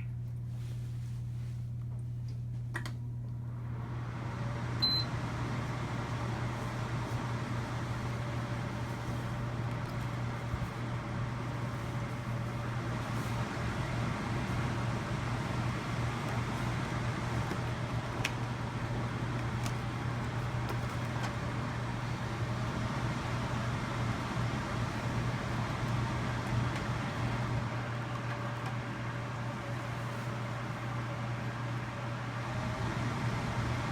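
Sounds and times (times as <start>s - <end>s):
air cooler low hum: 0.0s - 33.9s
airy fan noise: 0.0s - 33.9s.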